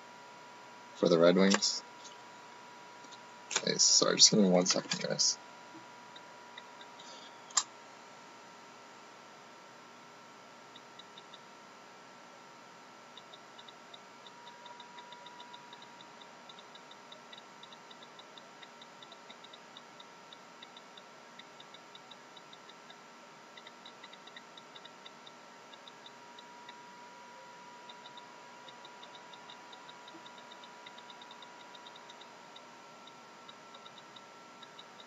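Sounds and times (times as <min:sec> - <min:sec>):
faint steady whine: 0:00.0 - 0:35.0.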